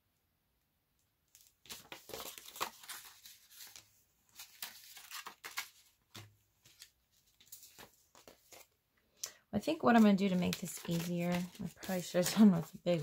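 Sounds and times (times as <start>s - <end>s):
paper rustling and crinkling: 1.3s - 8.8s, 9.6s - 13.0s.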